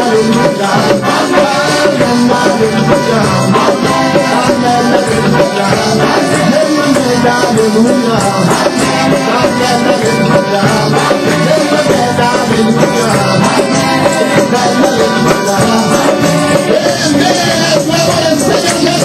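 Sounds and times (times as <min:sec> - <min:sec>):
church worship music: 0:00.0 - 0:19.0
voices singing: 0:00.0 - 0:19.0.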